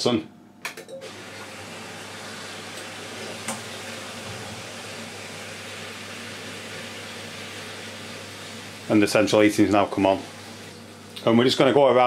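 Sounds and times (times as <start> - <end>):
boiler fan noise with hum: 0.0 - 12.0.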